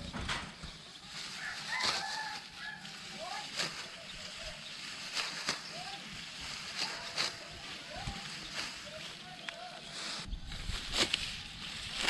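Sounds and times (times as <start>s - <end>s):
rice stalks rustling: 0.0s - 12.0s.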